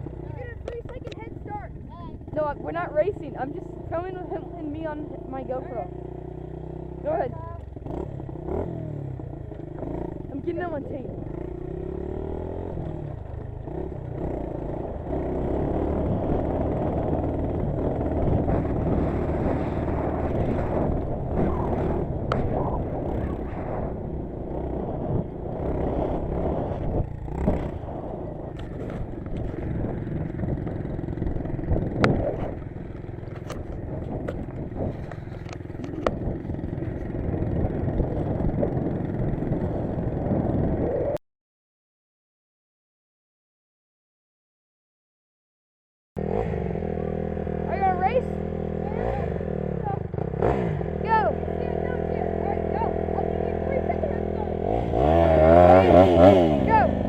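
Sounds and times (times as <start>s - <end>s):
dirt bike engine rumble: 0.0s - 41.2s, 46.2s - 57.0s.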